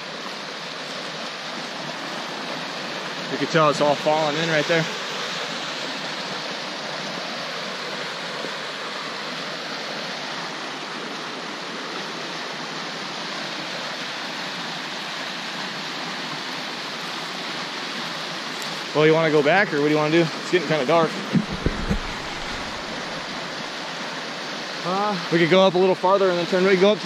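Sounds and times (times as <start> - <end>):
creek rushing over rocks: 0.0 - 27.0.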